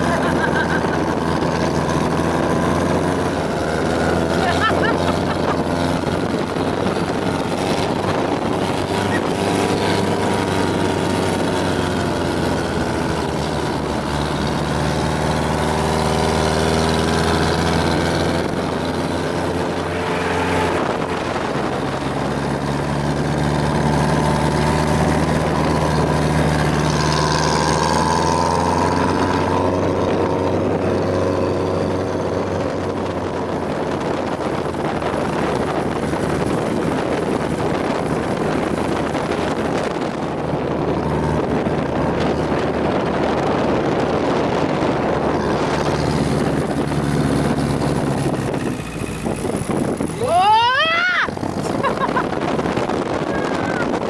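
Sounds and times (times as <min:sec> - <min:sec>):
motor engine running: 0:00.0 - 0:54.0.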